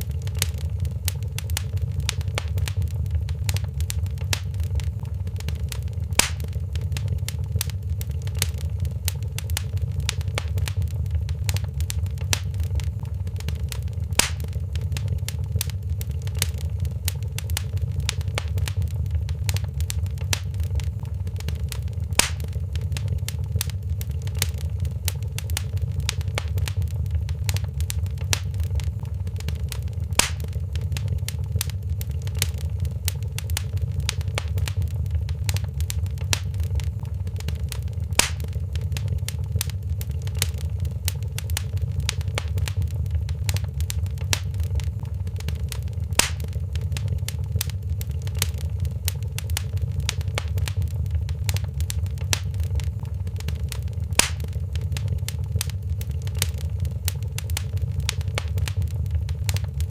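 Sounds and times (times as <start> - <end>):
loud fire snaps: 0.0 - 59.9
low fire rumble: 0.0 - 59.9
wood fire crackling: 0.0 - 59.9.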